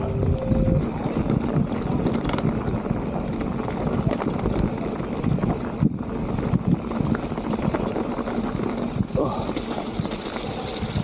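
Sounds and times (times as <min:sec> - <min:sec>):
tyres rolling on rough trail: 0:00.0 - 0:11.0
bike rattling: 0:00.8 - 0:11.0.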